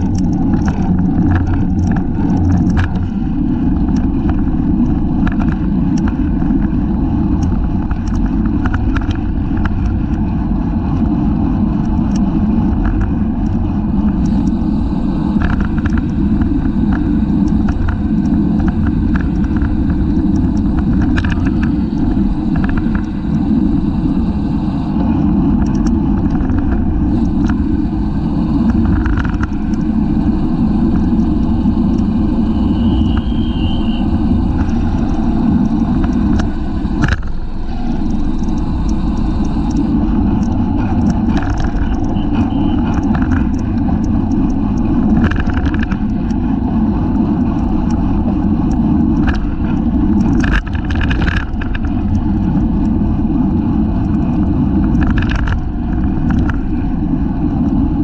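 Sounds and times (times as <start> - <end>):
bicycle clicks and knocks: 0.0 - 14.7, 15.4 - 23.8, 25.6 - 27.8, 28.6 - 53.0, 53.9 - 56.8
road rumble: 0.0 - 58.0
wind rush: 0.0 - 58.0.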